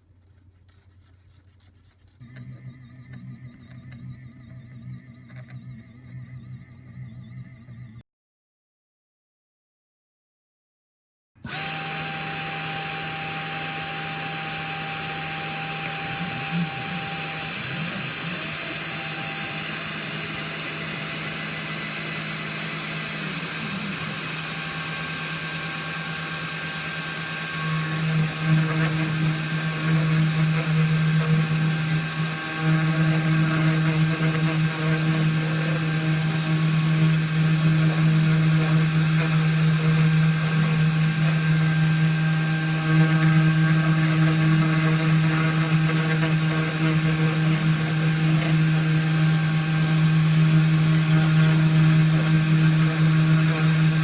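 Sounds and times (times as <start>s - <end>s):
milling machine motor hum: 2.2s - 8.0s, 11.5s - 54.0s.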